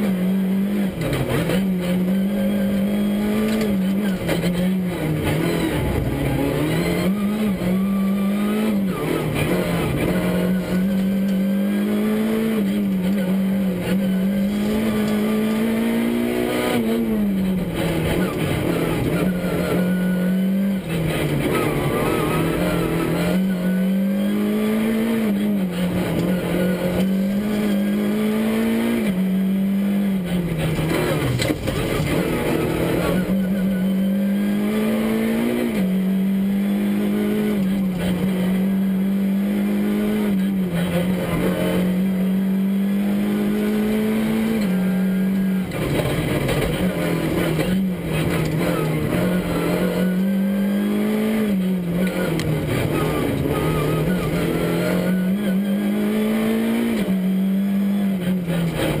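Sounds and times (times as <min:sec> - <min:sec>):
car engine at full load: 0:00.0 - 0:59.0.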